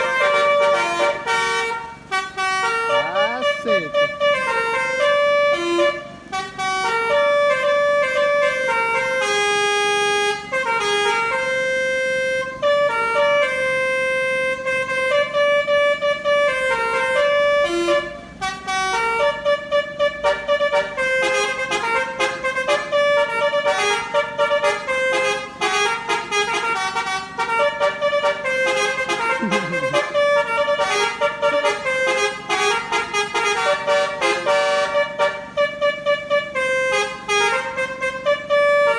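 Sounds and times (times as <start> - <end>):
bus musical horn playing tune: 0.0 - 38.9.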